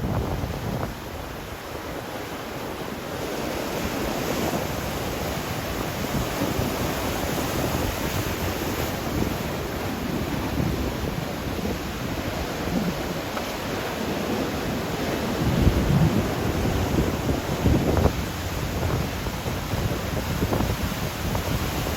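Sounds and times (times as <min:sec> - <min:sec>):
surf breaking on beach: 0:00.0 - 0:21.9
wind buffeting microphone: 0:00.0 - 0:21.9.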